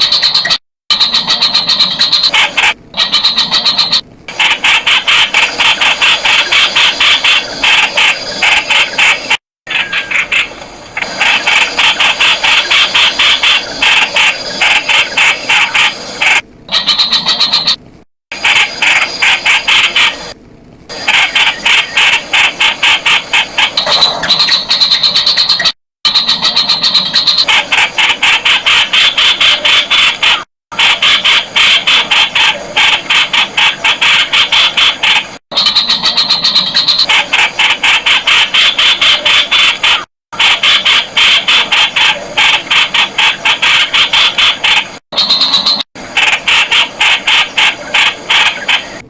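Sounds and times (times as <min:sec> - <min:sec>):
bird chattering calls: 0:00.0 - 0:17.8, 0:21.0 - 0:49.0.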